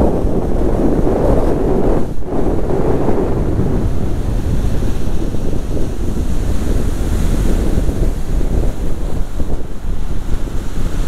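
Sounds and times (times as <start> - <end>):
heavy surf breaking: 0.0 - 11.0
wind buffeting microphone: 0.0 - 11.0.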